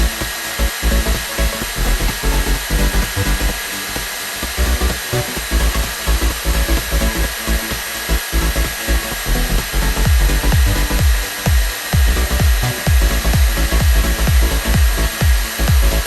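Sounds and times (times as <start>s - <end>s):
background music with steady beat: 0.0s - 16.0s
hair dryer blowing: 0.0s - 16.0s.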